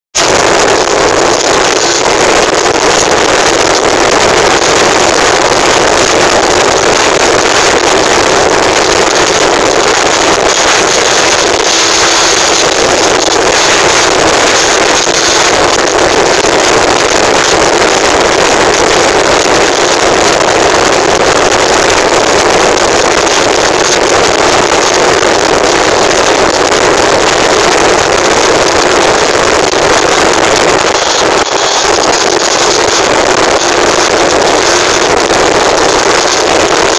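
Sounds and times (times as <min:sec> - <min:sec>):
vehicle engine at speed: 0:00.2 - 0:36.9
wind rush on microphone: 0:00.2 - 0:36.9.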